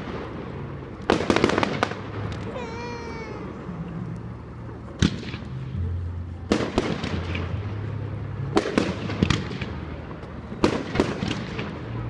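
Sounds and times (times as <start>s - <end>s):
fireworks banging: 0.0s - 3.6s, 4.9s - 12.0s
fireworks crackling: 0.0s - 12.0s.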